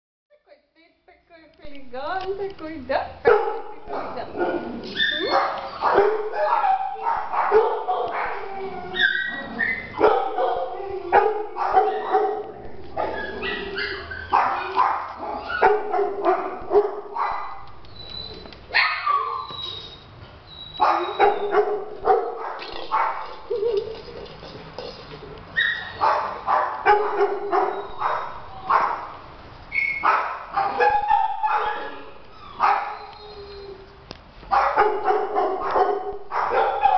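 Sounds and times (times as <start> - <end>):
young dog barking and yipping: 3.2 - 20.1, 20.7 - 24.0, 25.5 - 33.8, 34.5 - 36.9.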